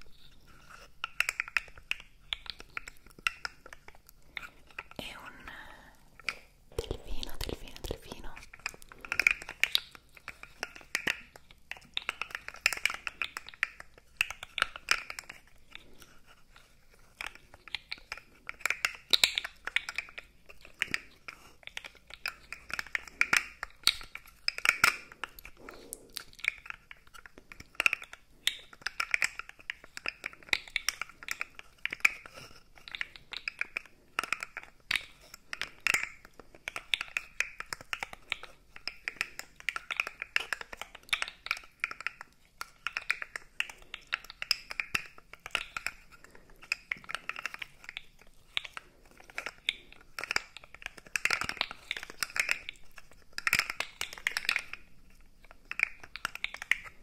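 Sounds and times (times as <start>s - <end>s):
plastic toy clicking and rattling: 0.0s - 5.4s, 6.2s - 57.0s.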